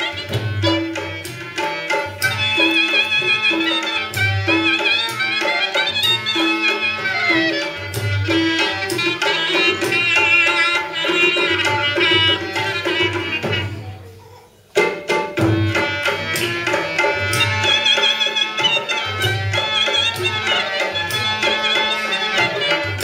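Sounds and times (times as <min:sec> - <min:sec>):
sustained melody instrument: 0:00.0 - 0:13.9, 0:15.6 - 0:23.0
hand drums: 0:00.0 - 0:23.0.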